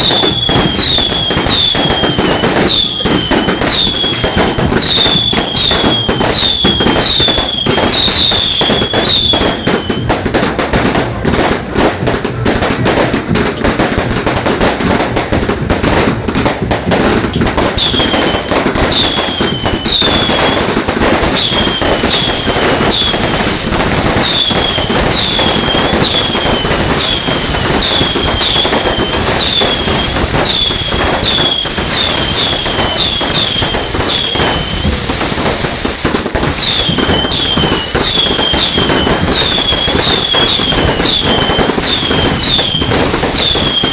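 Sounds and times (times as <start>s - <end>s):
fireworks crackling: 0.0s - 43.9s.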